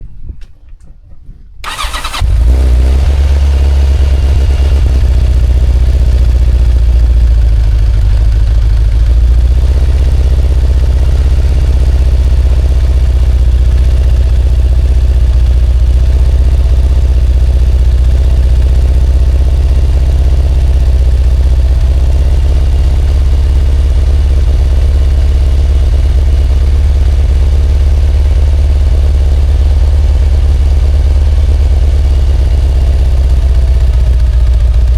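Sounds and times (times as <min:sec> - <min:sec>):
motorcycle engine starting and running: 0:01.6 - 0:34.9.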